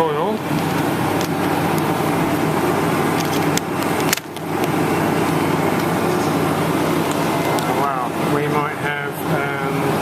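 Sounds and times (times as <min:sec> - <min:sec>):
refrigeration unit humming: 0:00.0 - 0:10.0.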